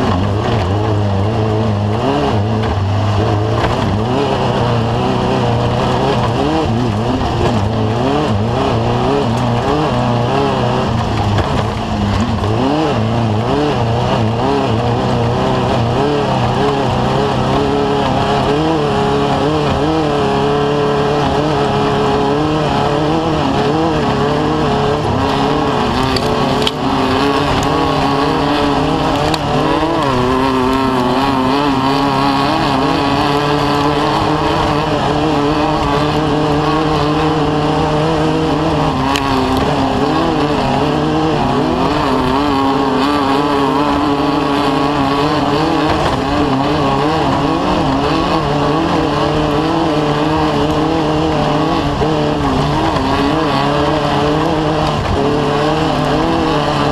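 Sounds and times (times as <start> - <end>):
race vehicle engine revving: 0.0 - 56.9.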